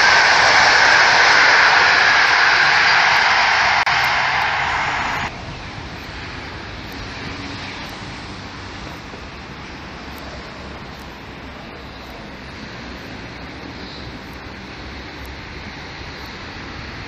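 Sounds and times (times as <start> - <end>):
distant road traffic: 0.0 - 17.0
passing train rushing: 0.0 - 17.0
wind rumble on microphone: 0.0 - 17.0.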